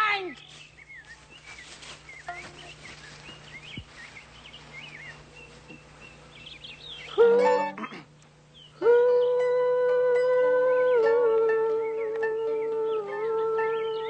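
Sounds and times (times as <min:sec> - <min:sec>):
birds chirping: 0:00.0 - 0:09.8, 0:10.7 - 0:14.0.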